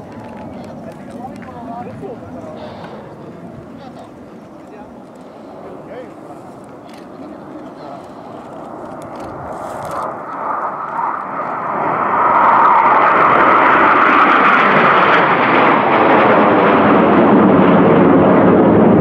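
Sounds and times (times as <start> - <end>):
jet aircraft flying over: 0.0 - 19.0.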